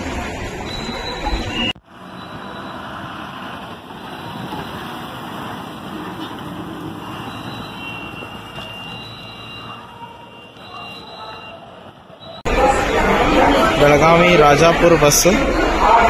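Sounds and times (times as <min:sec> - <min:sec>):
bus traffic: 0:00.0 - 0:16.0
diesel bus engine running: 0:00.0 - 0:16.0.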